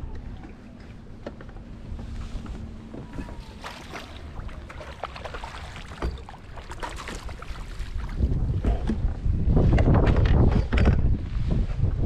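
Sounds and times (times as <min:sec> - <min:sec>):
water splashing around a kayak: 0:00.0 - 0:09.7.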